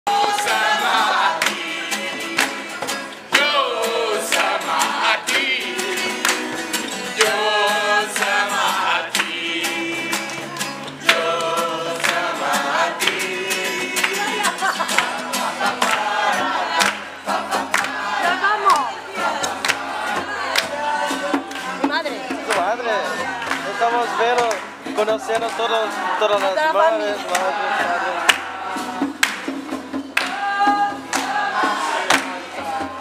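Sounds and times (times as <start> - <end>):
hand-clapping: 0.1 - 27.6, 28.2 - 32.8
strummed acoustic guitars: 0.1 - 33.0
young voices singing together: 0.1 - 33.0.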